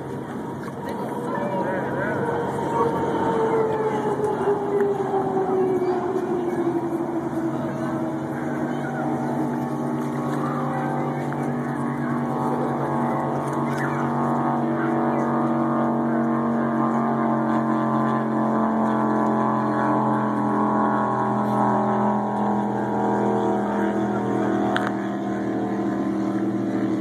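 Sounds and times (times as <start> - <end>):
boat engines running at speed: 0.0 - 27.0.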